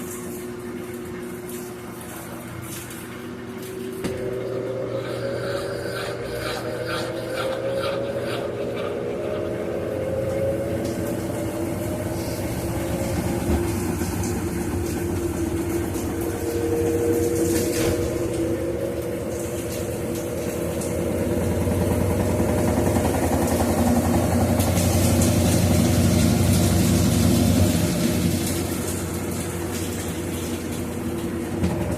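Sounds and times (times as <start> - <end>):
washing machine spinning: 0.0 - 31.9.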